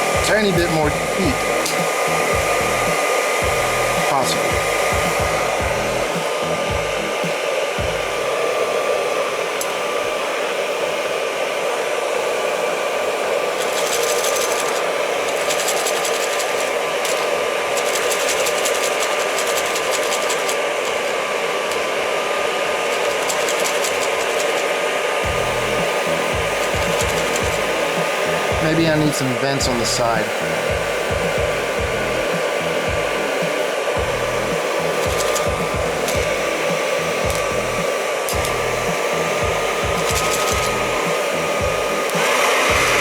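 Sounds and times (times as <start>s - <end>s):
popcorn kernels popping in can: 0.0s - 8.2s, 13.4s - 43.0s
hair dryer running: 0.0s - 43.0s.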